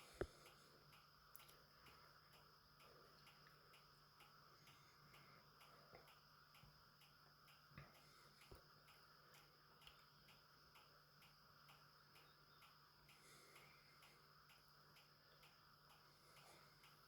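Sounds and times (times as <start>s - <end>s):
faint regular ticking: 0.0s - 17.0s
faint steady hum: 0.0s - 17.0s.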